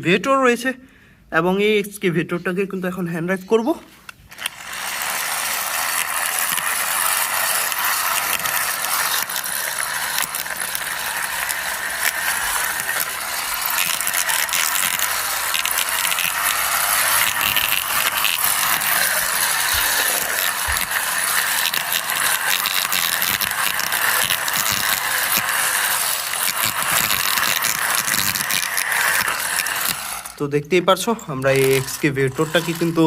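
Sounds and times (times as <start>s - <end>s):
toy gears clicking rattle: 4.3s - 33.0s.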